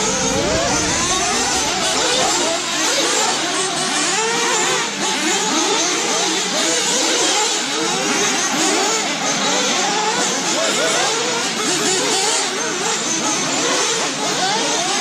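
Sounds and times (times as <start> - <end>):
rc car motors revving: 0.0 - 15.0.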